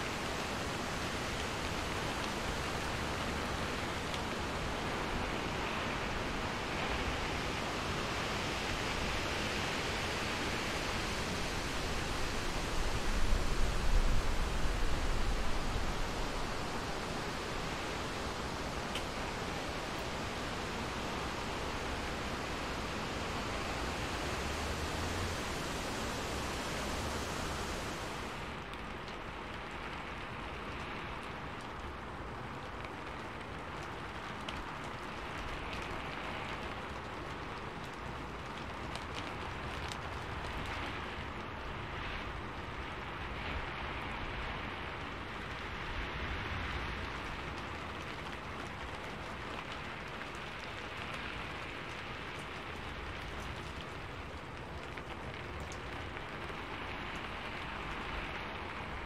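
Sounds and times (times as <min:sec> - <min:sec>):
steady rain hiss: 0:00.0 - 0:59.0
raindrop ticks: 0:00.1 - 0:06.0, 0:12.2 - 0:59.0.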